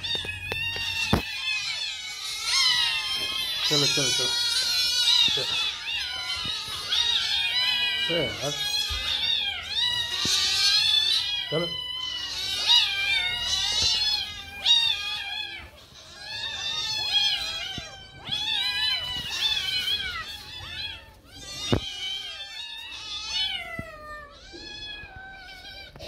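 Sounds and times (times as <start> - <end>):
kittens meowing: 0.0 - 26.0.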